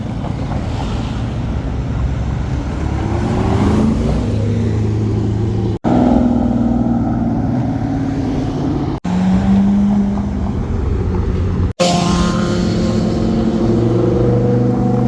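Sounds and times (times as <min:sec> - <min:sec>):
car engines running loud: 0:00.0 - 0:15.0.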